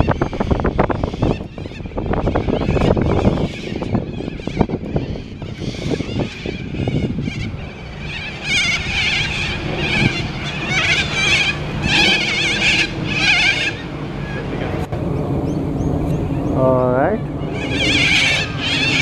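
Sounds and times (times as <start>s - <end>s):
harsh wavering bird calls: 0.0s - 19.0s
wind on microphone: 0.0s - 19.0s.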